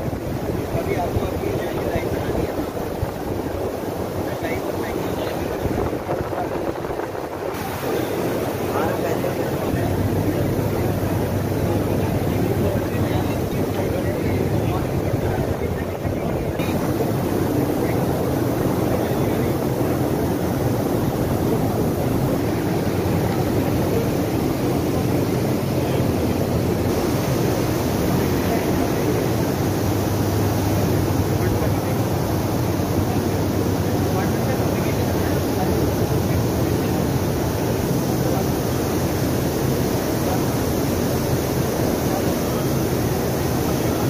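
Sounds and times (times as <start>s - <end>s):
air-cooler fans roaring: 0.0s - 44.0s
exhibition hall noise: 0.0s - 44.0s.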